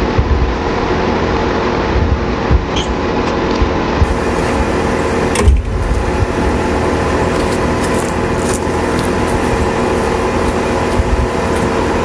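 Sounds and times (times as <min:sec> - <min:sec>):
heat pump fan and compressor hum: 0:00.0 - 0:12.0.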